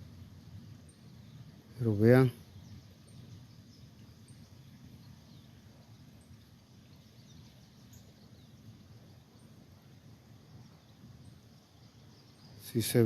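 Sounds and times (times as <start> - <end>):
faint bird chirps: 0.0 - 13.0
low outdoor rumble: 0.0 - 13.0.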